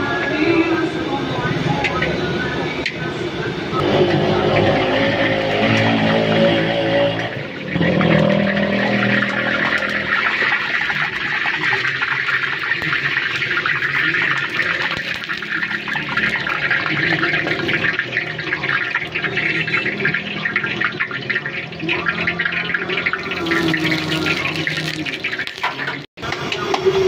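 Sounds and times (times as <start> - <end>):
oil sizzling while deep-frying: 3.8 - 27.0.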